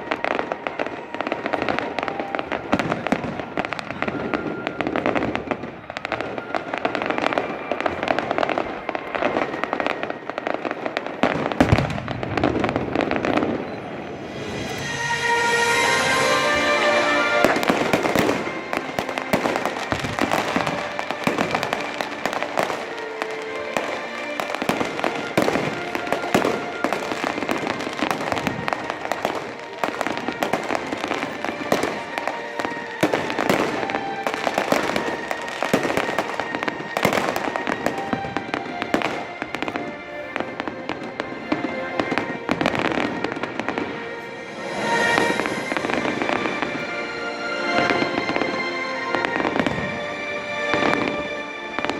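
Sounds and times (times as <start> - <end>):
fireworks bangs and crackles: 0.0 - 51.9
music playing: 0.0 - 51.9.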